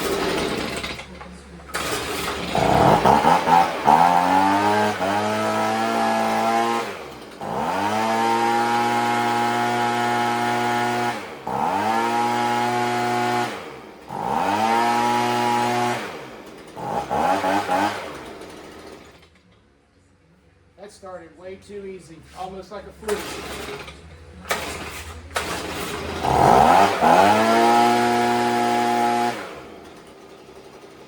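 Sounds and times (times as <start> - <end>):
leaf blower engine revving: 0.0 - 19.3, 23.0 - 31.0.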